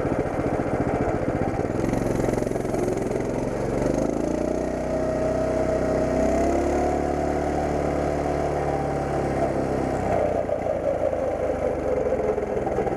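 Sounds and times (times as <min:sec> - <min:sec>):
mini bike engine running: 0:00.0 - 0:12.9.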